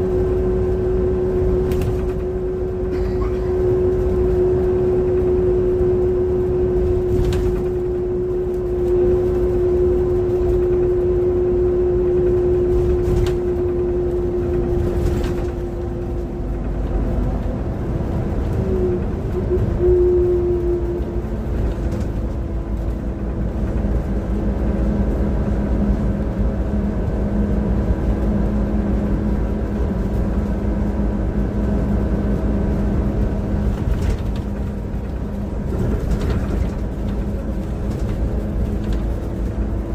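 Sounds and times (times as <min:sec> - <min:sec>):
bus engine rumble: 0:00.0 - 0:39.9
engine whine: 0:00.0 - 0:39.9.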